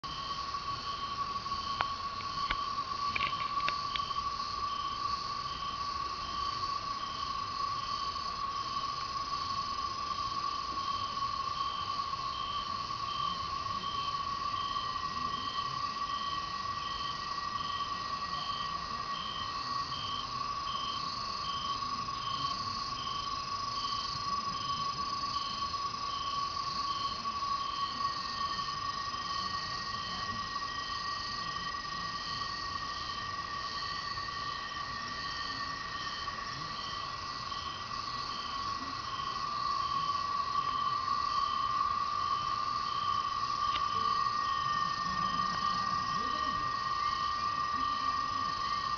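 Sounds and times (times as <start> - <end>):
cicadas droning: 0.0 - 48.9
short repeating insect call: 0.0 - 48.9.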